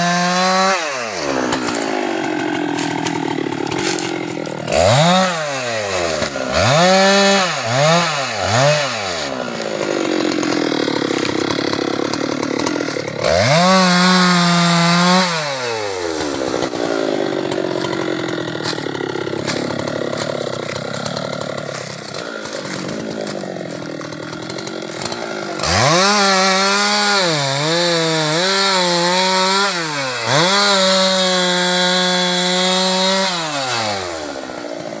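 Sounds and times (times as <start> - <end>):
chainsaw revving and idling: 0.0 - 35.0.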